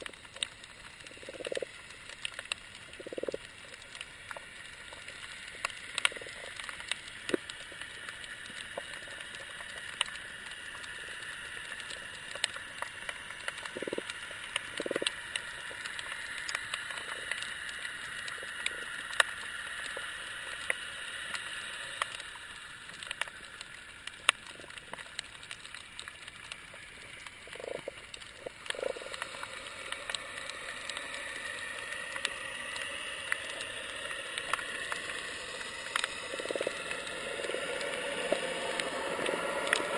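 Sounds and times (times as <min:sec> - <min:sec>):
sharp clicks and crackles: 0:00.0 - 0:39.9
underwater hiss: 0:00.0 - 0:39.9.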